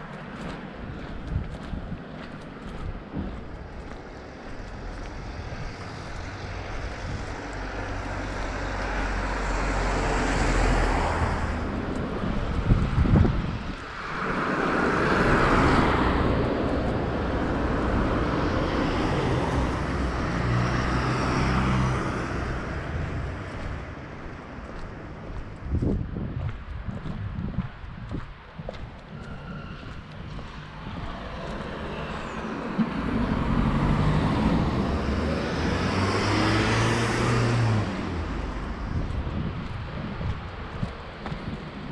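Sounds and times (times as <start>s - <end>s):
cars driving past: 0.0s - 26.0s, 28.3s - 41.9s.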